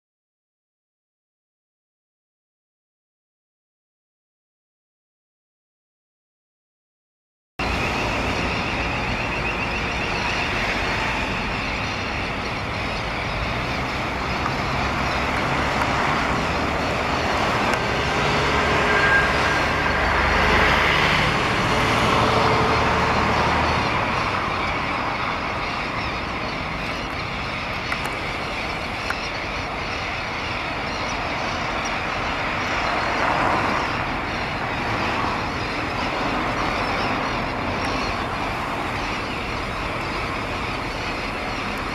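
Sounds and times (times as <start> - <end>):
terns calling: 7.6 - 41.9.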